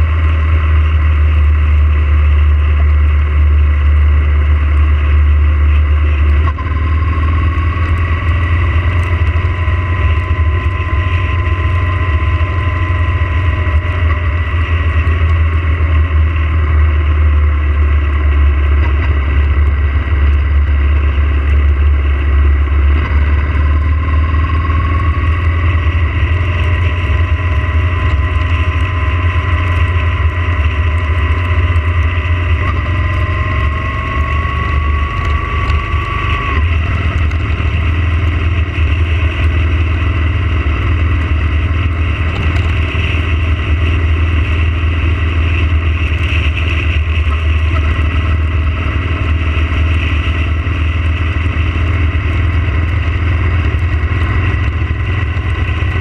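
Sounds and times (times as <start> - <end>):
motorcycle engine drone: 0.0 - 56.0
wind noise: 0.0 - 56.0.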